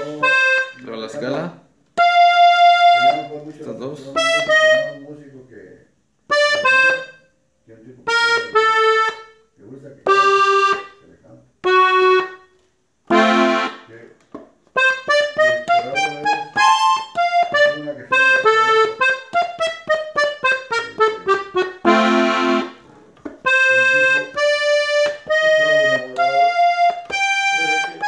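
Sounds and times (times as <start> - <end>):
button accordion playing: 0.0 - 1.2, 1.9 - 5.2, 6.2 - 7.3, 8.0 - 11.0, 11.6 - 14.0, 14.7 - 28.0.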